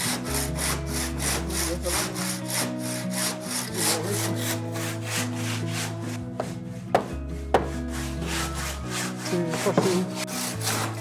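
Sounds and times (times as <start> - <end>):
handsaw rasping through stone: 0.0 - 11.0.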